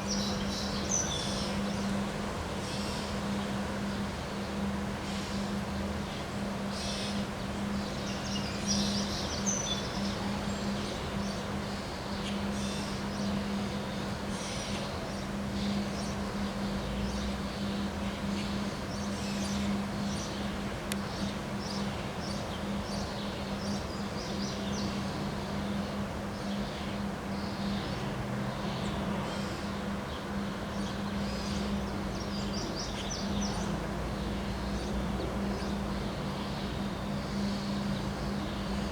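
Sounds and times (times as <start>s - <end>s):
steady noisy background: 0.0s - 38.9s.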